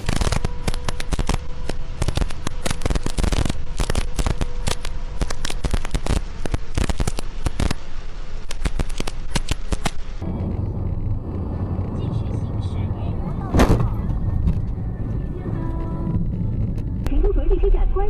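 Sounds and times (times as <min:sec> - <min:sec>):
heavy rain on vehicle roof: 0:00.0 - 0:16.9
faint steady hum: 0:00.0 - 0:18.0.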